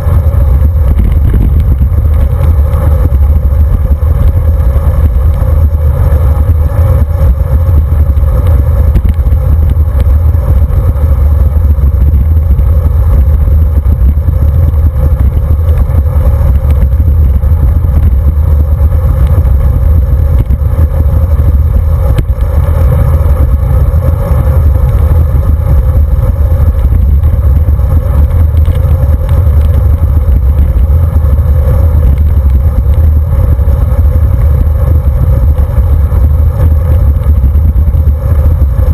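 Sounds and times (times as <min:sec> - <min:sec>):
road vibration rumble: 0:00.0 - 0:38.9
wind buffeting: 0:00.0 - 0:38.9.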